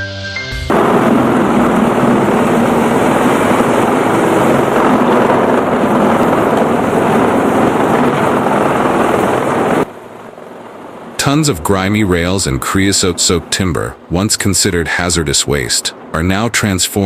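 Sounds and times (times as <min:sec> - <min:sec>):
low engine drone: 0:00.5 - 0:17.0.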